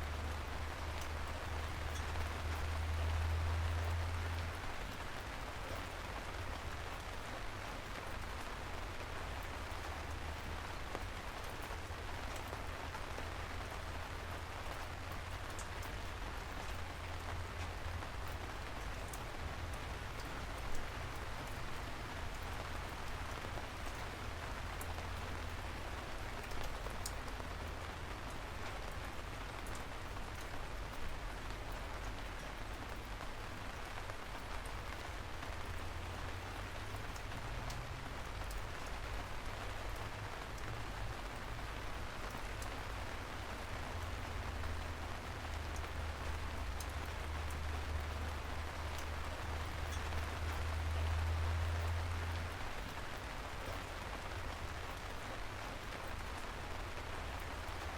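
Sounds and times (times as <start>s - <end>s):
raindrop ticks: 0.0s - 57.9s
steady rain hissing: 0.0s - 57.9s.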